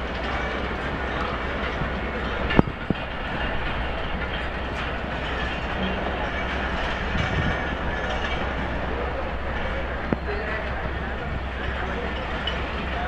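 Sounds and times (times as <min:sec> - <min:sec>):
rumble of wheels on rail: 0:00.0 - 0:13.0.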